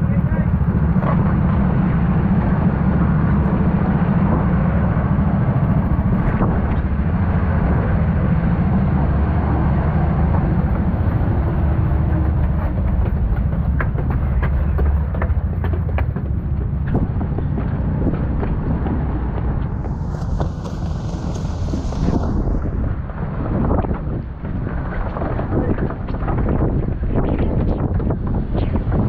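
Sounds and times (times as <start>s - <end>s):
rushing noise: 0.7s - 25.4s.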